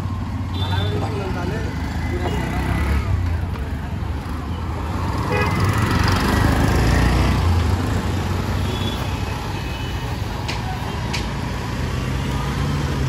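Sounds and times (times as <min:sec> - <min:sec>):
road rush: 0:00.0 - 0:13.0.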